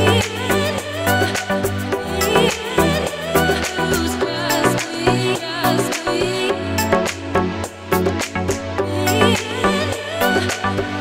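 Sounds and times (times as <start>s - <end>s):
music with drum beat and melody: 0.0s - 11.0s.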